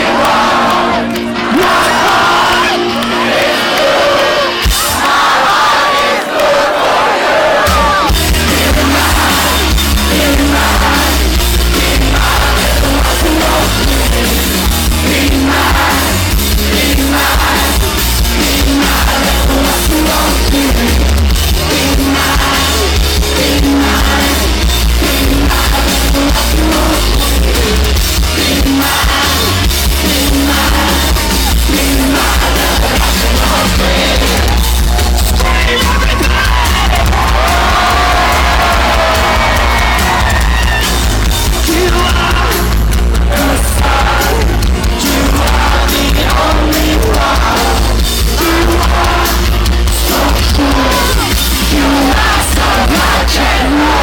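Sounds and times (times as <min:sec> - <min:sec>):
live rock band playing: 0:00.0 - 0:05.4, 0:07.6 - 0:54.0
distorted guitar: 0:00.0 - 0:05.9, 0:07.6 - 0:54.0
singer yelling and singing: 0:00.0 - 0:54.0
booming bass: 0:07.7 - 0:54.0.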